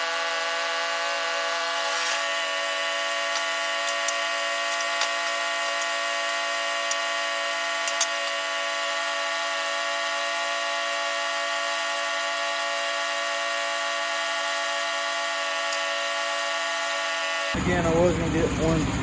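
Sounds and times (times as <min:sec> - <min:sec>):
sawmill cutting log: 0:00.0 - 0:19.0.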